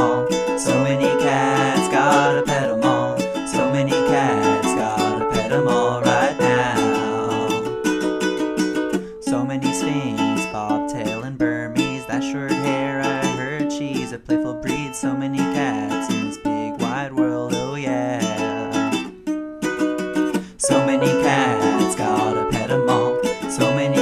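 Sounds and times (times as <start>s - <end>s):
upbeat ukulele song: 0.0s - 24.0s.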